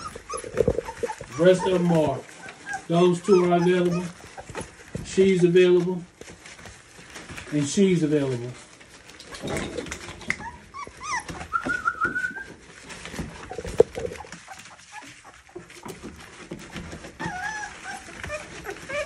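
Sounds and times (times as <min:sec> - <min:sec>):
puppies whimpering: 0:00.0 - 0:07.2, 0:08.9 - 0:19.0
rustle of wood shavings: 0:00.0 - 0:09.3, 0:09.9 - 0:19.0.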